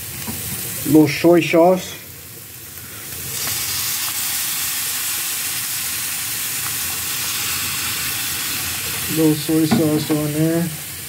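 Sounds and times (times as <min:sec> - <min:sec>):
sauce sizzling on hot griddle: 0:00.0 - 0:11.0.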